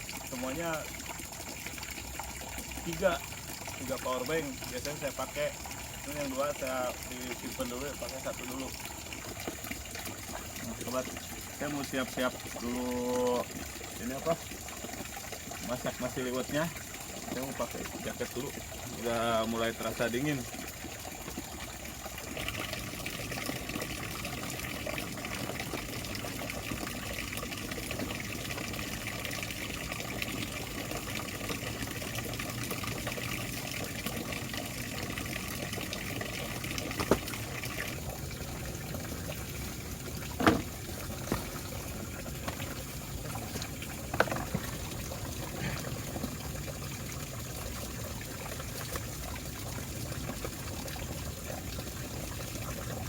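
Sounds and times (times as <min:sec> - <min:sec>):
river water running: 0:00.0 - 0:53.0.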